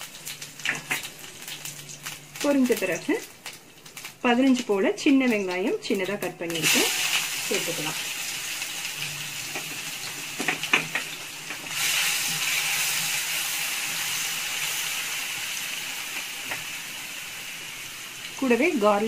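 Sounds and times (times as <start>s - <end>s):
shallots sizzling in oil: 0.0s - 19.0s.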